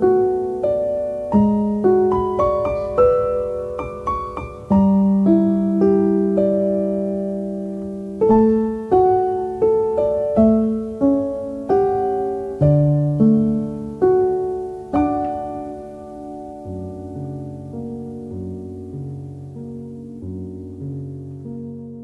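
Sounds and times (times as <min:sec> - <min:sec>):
slow gentle piano melody: 0:00.0 - 0:22.0.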